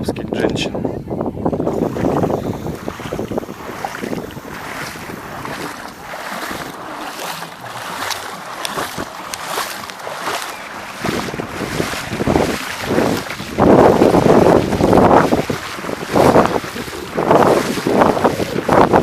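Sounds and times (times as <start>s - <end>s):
wind buffeting microphone: 0.0s - 19.0s
waves washing: 1.6s - 19.0s.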